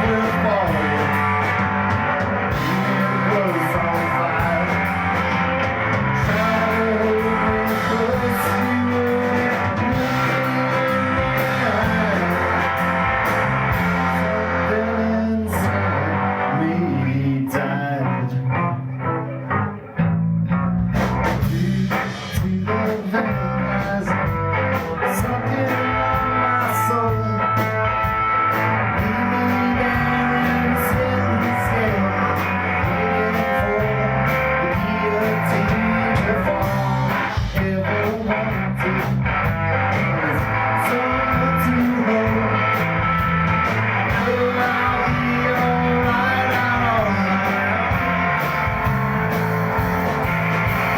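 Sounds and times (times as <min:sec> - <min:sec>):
person singing: 0:00.0 - 0:18.9, 0:21.4 - 0:50.9
bass guitar: 0:00.0 - 0:50.9
drums: 0:00.0 - 0:50.9
electric guitar: 0:00.0 - 0:50.9.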